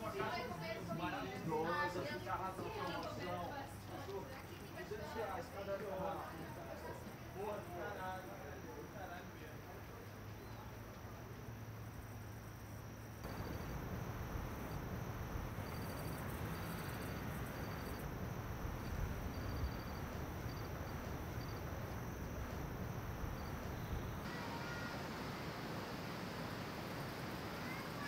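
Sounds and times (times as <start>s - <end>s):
low rumble and hiss: 0.0s - 28.0s
insect chirping: 4.4s - 28.0s.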